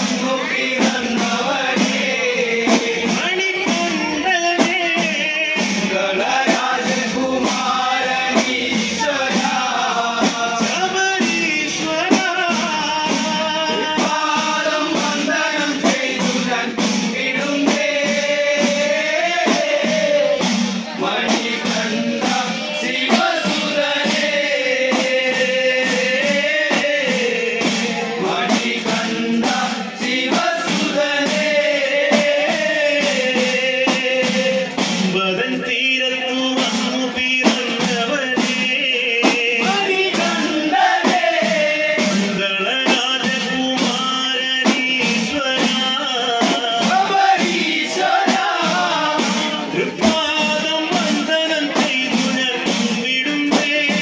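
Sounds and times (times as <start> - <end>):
handheld percussion beat: 0.0 - 54.0
lead voice and chorus: 0.0 - 54.0
men singing devotional song: 0.0 - 54.0.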